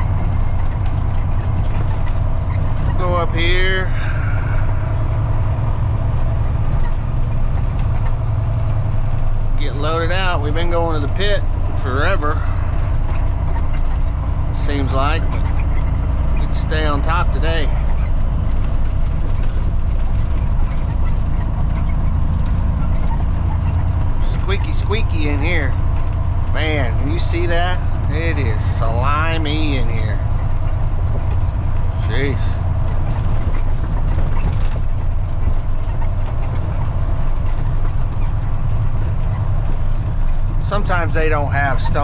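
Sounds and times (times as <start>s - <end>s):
truck diesel engine rumble: 0.0s - 42.0s.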